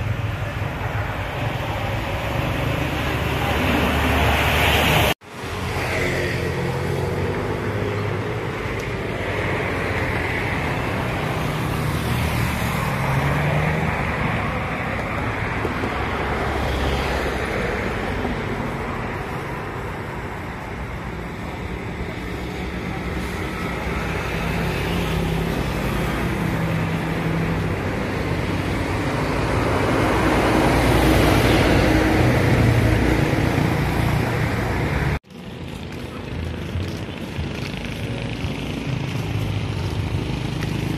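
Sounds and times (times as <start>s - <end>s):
passing vehicle engines: 0.0s - 40.9s.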